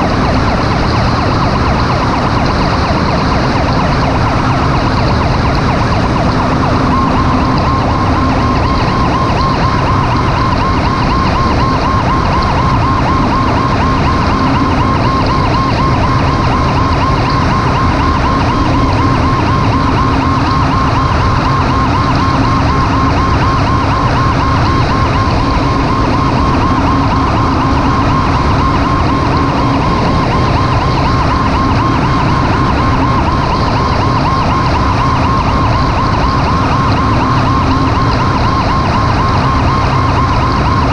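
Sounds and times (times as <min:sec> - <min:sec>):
emergency siren warbling: 0:00.0 - 0:40.9
road and engine noise: 0:00.0 - 0:40.9.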